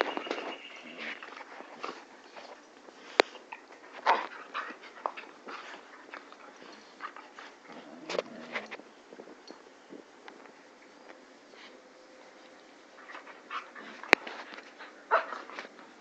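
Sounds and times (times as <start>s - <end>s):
puppies play-fighting: 0.0s - 10.8s, 11.5s - 16.0s.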